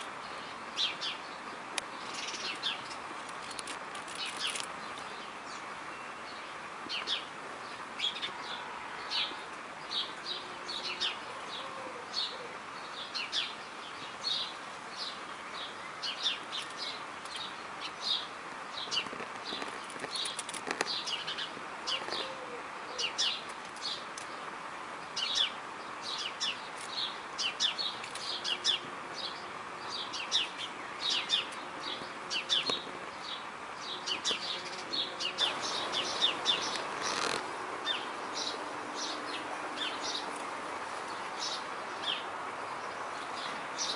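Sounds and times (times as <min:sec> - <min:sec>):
small birds chirping: 0:00.0 - 0:43.9
steady background hiss: 0:00.0 - 0:43.9.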